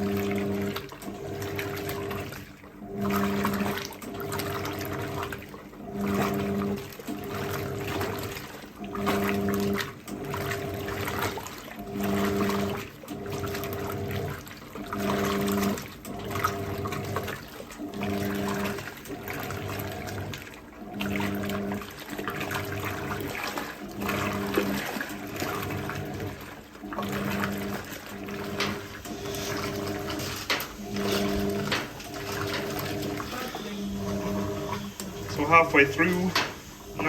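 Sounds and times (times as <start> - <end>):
washing machine agitating: 0.0 - 37.0
water sloshing: 0.0 - 37.0.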